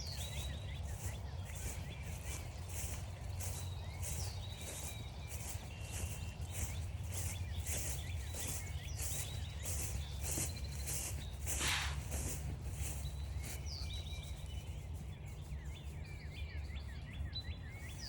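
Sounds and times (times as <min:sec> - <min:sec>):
footsteps crunching frosty grass: 0:00.0 - 0:18.0
small birds chirping: 0:00.0 - 0:18.0.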